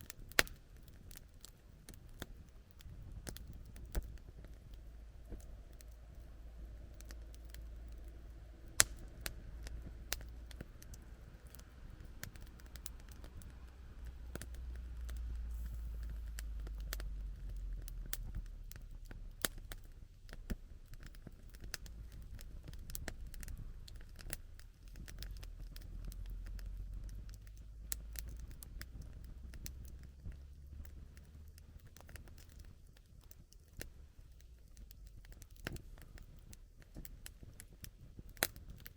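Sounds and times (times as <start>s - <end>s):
campfire crackling and popping: 0.0s - 38.9s
low steady rumble: 0.0s - 38.9s.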